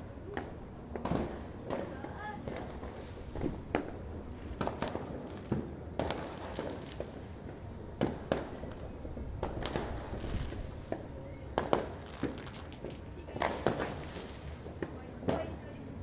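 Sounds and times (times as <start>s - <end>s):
background hiss: 0.0s - 16.0s
fireworks bangs and pops: 0.3s - 16.0s.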